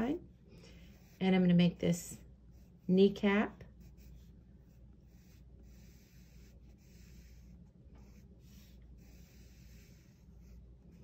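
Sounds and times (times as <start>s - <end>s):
pencil scratching on paper: 0.0s - 1.8s, 2.4s - 11.0s.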